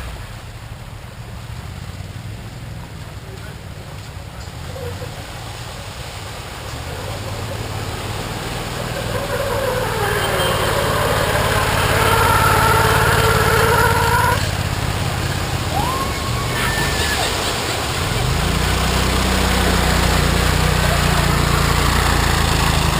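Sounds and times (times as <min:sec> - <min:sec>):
buggy engine revving: 0:01.0 - 0:22.9.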